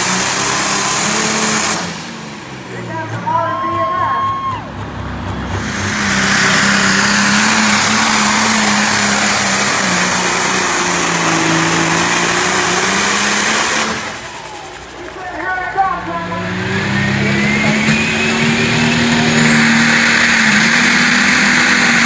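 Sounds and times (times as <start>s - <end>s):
diesel tractor engine roaring: 0.0s - 22.0s.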